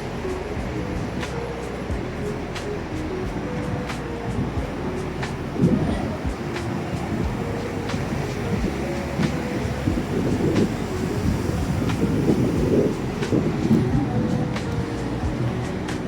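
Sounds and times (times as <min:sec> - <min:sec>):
traffic roar: 0:00.0 - 0:16.0
wind buffeting microphone: 0:00.0 - 0:16.0.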